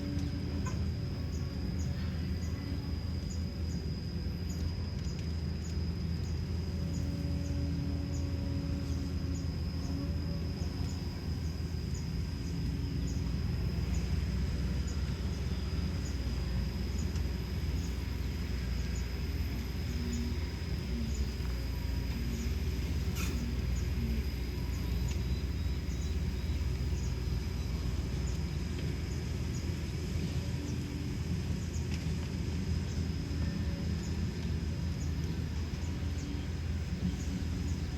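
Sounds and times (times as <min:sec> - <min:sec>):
excavator diesel engine rumbling: 0:00.0 - 0:37.9.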